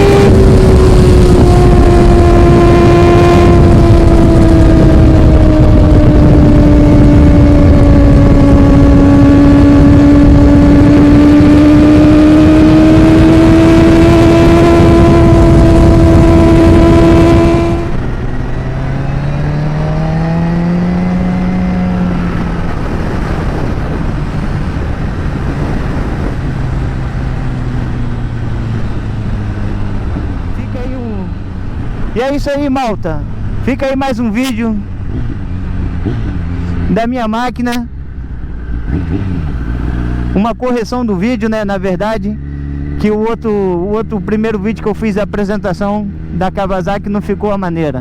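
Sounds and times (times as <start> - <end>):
motorcycle engine revving: 0.0 - 48.0
wind rush: 0.0 - 48.0.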